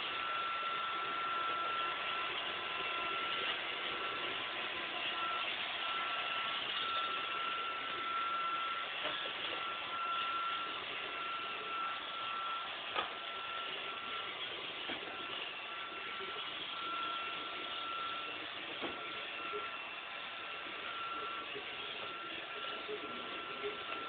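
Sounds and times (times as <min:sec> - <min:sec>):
robot vacuum running: 0:00.0 - 0:24.0.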